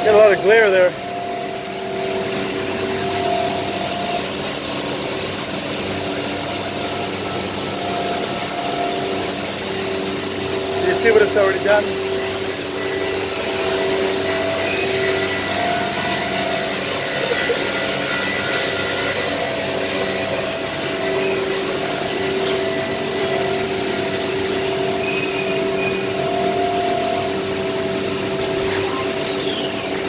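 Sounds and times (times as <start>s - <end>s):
cnc router cutting board: 0.0s - 30.0s
held machine tones: 0.0s - 30.0s.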